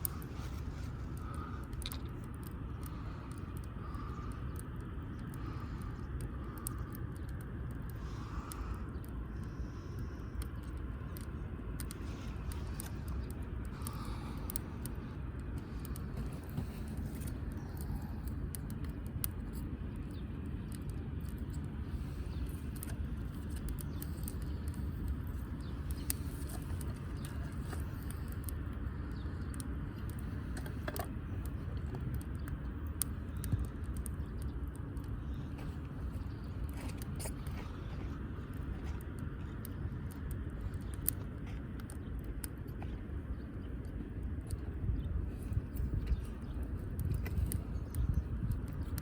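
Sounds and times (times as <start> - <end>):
firewood crackling and popping: 0.0 - 49.0
low steady rumble: 0.0 - 49.0.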